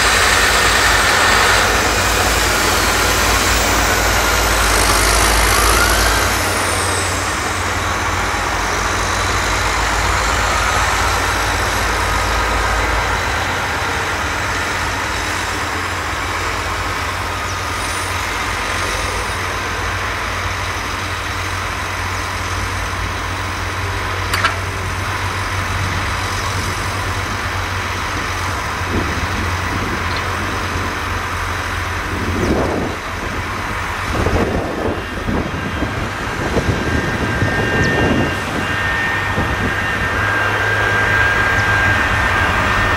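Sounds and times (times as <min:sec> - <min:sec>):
trailer tipping: 0:00.0 - 0:36.2
diesel tractor engine running: 0:00.0 - 0:42.9.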